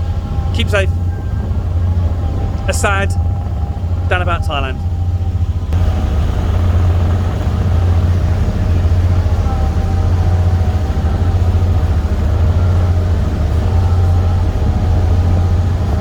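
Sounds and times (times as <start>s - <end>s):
faint steady whine: 0.0s - 16.0s
low engine drone: 0.0s - 16.0s.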